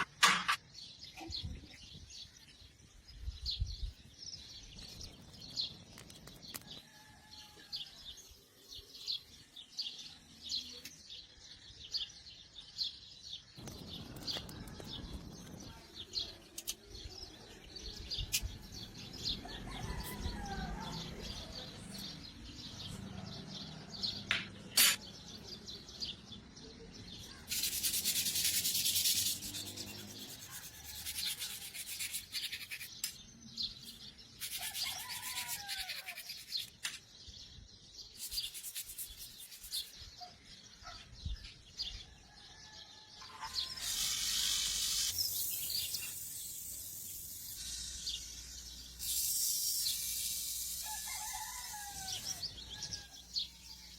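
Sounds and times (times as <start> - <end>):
birds chirping: 8.6 - 53.9.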